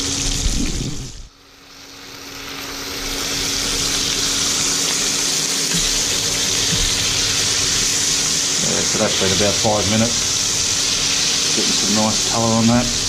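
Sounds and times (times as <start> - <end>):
steaks sizzling in a frying pan: 1.5 - 13.0.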